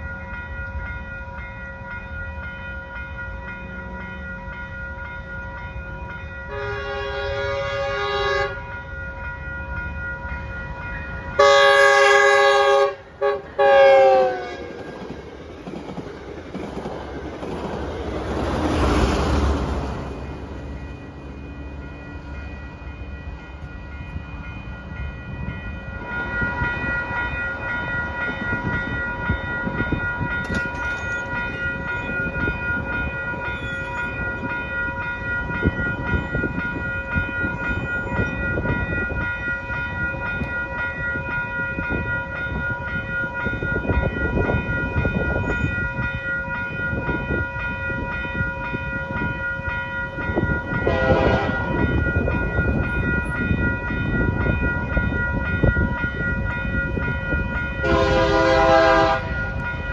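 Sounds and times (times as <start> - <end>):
railroad crossing bell ringing: 0.0 - 59.9
train engine: 0.0 - 59.9.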